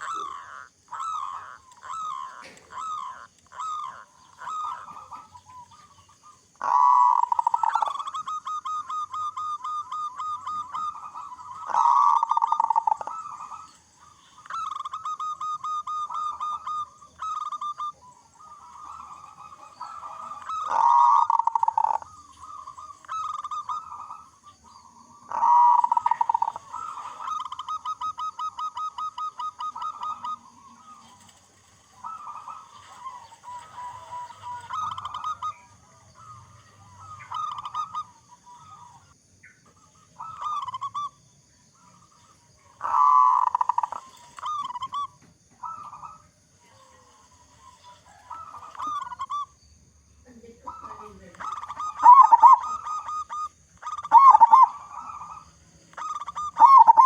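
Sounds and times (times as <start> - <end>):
dove cooing: 0.0 - 49.6, 50.3 - 57.0.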